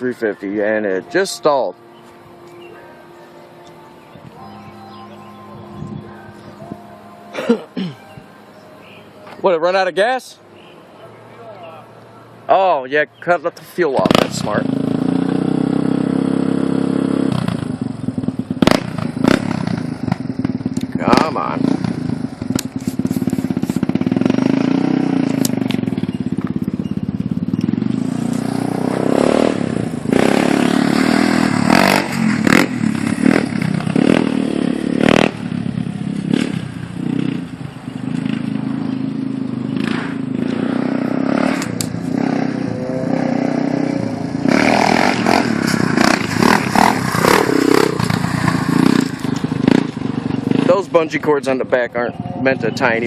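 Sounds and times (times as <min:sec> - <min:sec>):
atv engine revving: 0:03.7 - 0:53.0.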